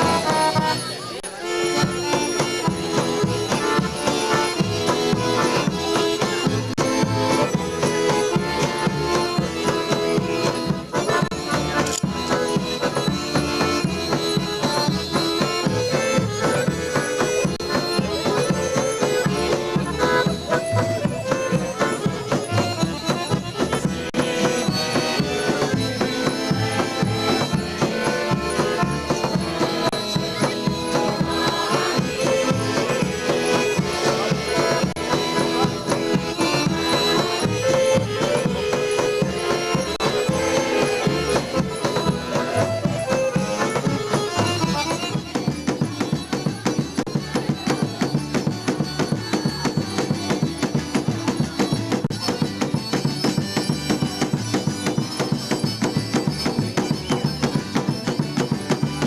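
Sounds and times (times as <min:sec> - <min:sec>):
accordion melody: 0:00.0 - 0:59.0
hand drum beat: 0:01.6 - 0:59.0.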